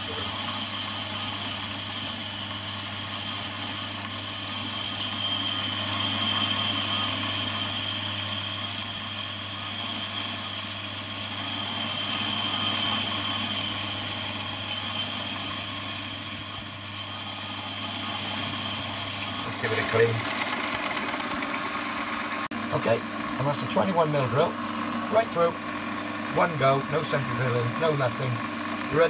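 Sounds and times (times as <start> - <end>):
lathe drilling aluminium: 0.0 - 22.5, 23.1 - 29.0.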